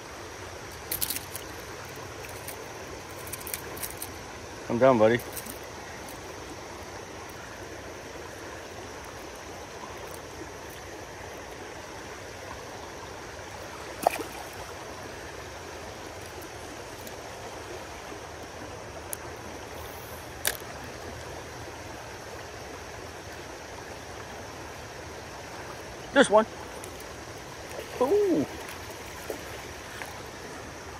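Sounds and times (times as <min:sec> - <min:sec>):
creek water running over riffles: 0:00.0 - 0:30.9.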